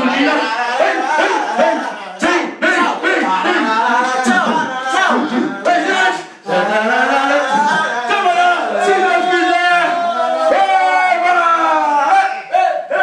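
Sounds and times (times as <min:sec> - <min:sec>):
man singing unaccompanied: 0:00.0 - 0:11.2.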